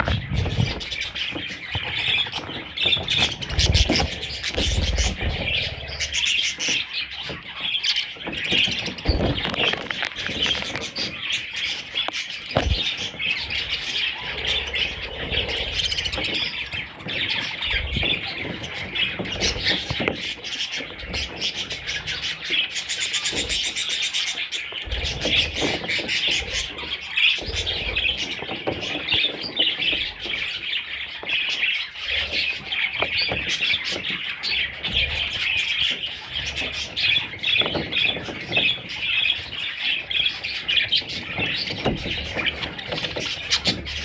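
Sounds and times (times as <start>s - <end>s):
budgerigars chirping and chattering: 0.0s - 44.0s.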